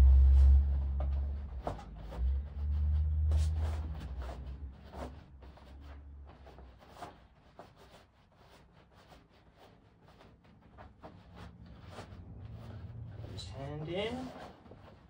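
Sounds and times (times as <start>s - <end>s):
low rumble of handling noise: 0.0s - 8.0s, 9.1s - 15.0s
fabric rustling and scraping: 0.0s - 15.0s.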